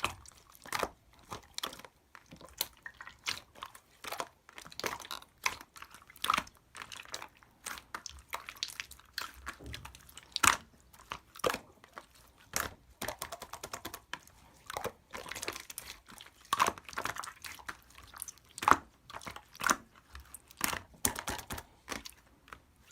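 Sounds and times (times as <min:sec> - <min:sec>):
slime squished by hand: 0:00.0 - 0:22.9.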